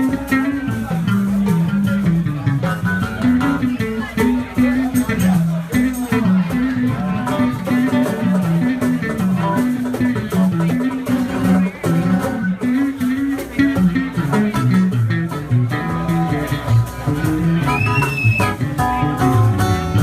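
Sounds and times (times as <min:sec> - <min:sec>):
bass line: 0:00.0 - 0:20.0
guitar: 0:00.0 - 0:20.0.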